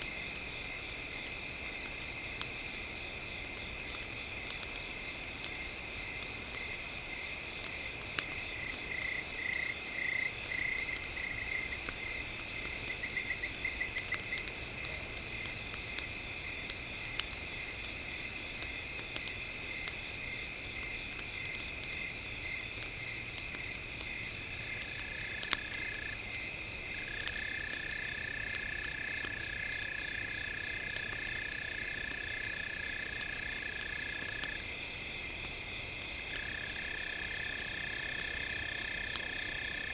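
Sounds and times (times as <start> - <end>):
chorus of night insects and frogs: 0.0 - 39.9
wood fire crackling and popping: 0.0 - 39.9.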